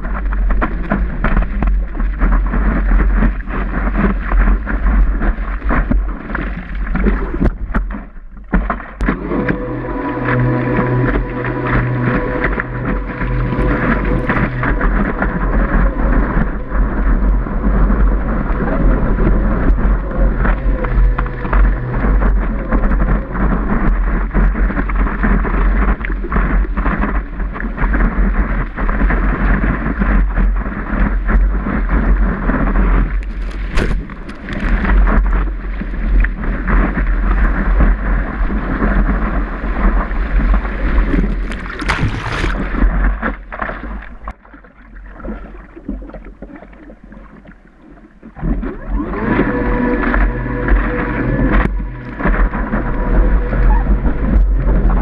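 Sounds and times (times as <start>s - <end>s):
heavy low rumble: 0.0s - 55.0s
water rushing and splashing: 0.0s - 55.0s.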